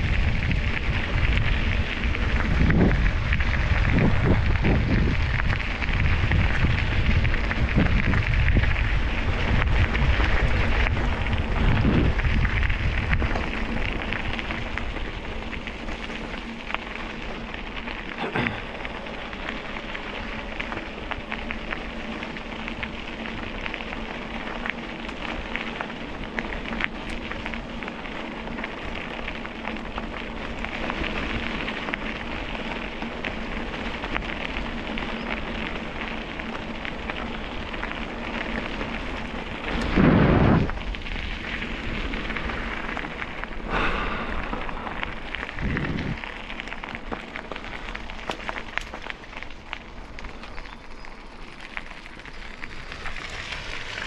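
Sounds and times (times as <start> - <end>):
crackling rolling ride noise: 0.0 - 54.0
wind rumble on microphone: 0.0 - 54.0.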